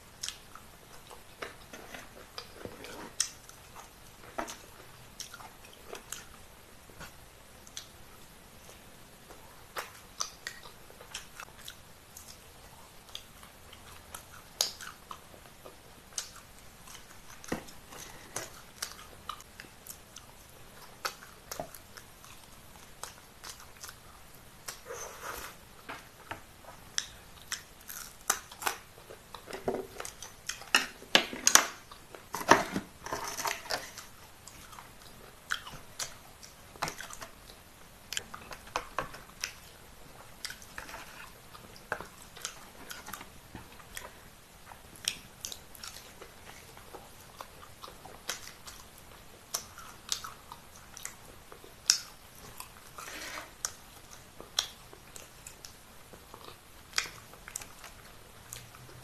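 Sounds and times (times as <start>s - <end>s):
person chewing food: 0.2s - 59.0s.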